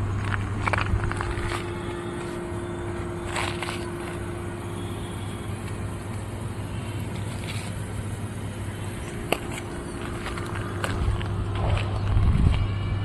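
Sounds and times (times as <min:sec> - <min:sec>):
constant higher tone: 0:00.0 - 0:13.0
low machine hum: 0:00.0 - 0:13.0.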